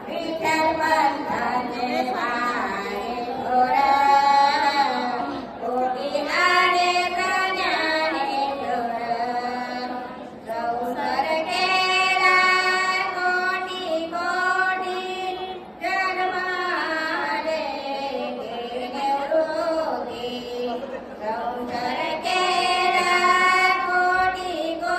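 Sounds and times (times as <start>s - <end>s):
woman singing devotional song: 0.0s - 24.9s.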